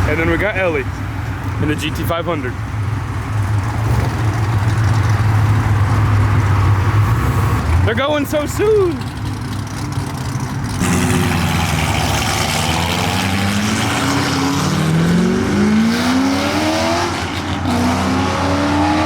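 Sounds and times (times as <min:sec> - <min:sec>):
car engine accelerating: 0:02.7 - 0:19.0.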